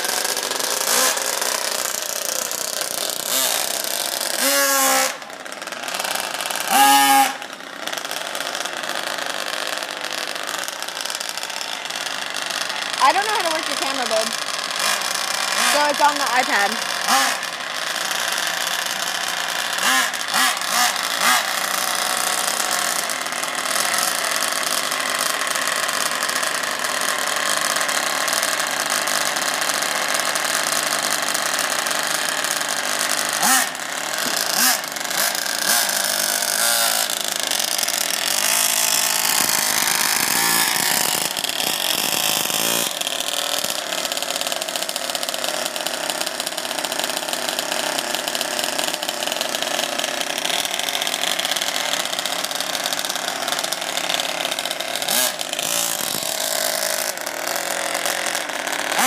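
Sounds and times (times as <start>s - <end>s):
small engines whining and revving: 0.0s - 59.0s.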